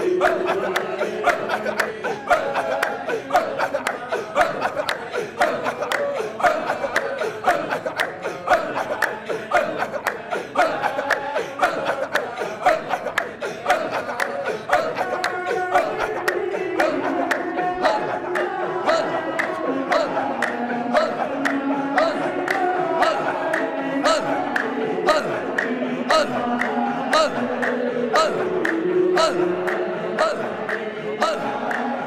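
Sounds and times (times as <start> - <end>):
percussion beat: 0.0 - 31.9
men chanting in rhythm: 0.0 - 32.0.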